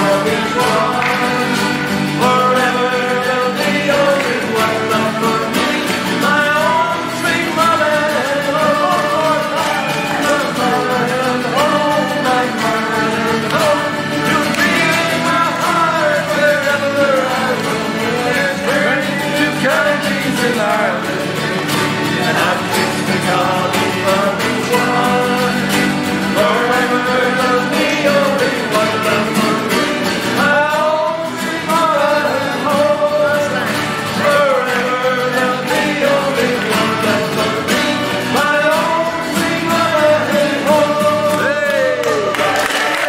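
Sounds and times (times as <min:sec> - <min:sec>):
men singing together: 0:00.0 - 0:43.0
strummed acoustic guitars: 0:00.0 - 0:43.0.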